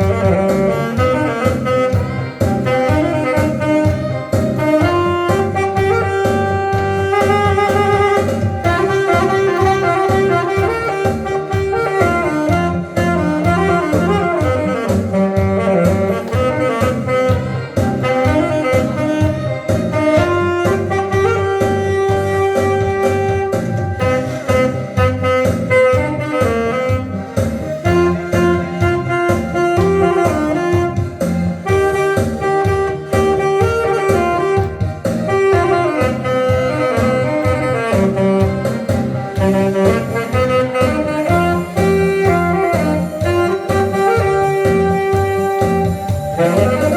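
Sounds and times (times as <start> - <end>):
backing track with bass and beat: 0.0 - 46.9
saxophone playing a melody: 0.0 - 46.9.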